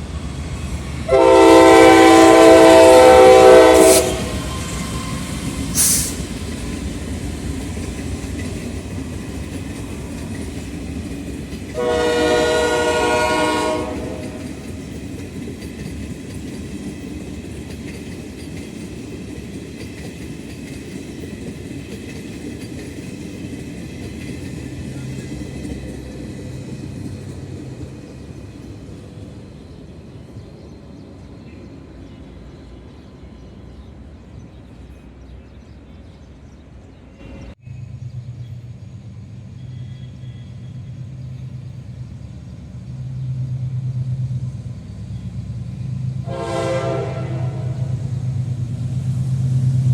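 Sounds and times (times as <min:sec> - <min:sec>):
train rumbling by: 0:00.0 - 0:49.9.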